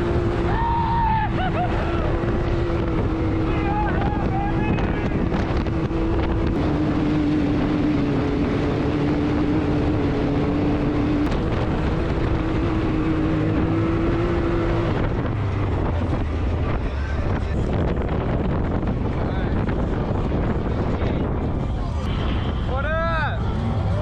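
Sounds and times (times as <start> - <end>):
vehicle engine droning: 0.0 - 24.0
wind noise on microphone: 1.4 - 23.2.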